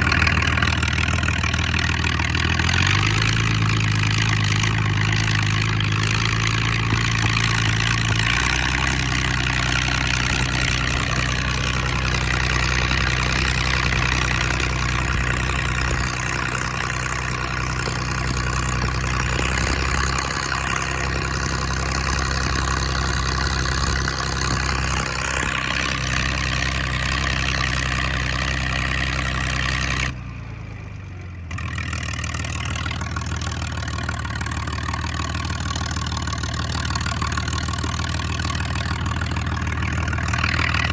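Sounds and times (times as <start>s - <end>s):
tractor engine running loud: 0.0s - 40.9s.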